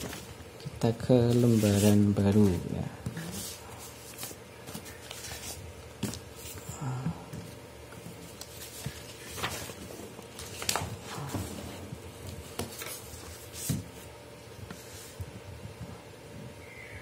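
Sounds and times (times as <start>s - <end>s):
paper rustling and crinkling: 0.0s - 0.4s, 1.0s - 6.8s, 7.4s - 15.3s
faint steady hum: 0.0s - 17.0s.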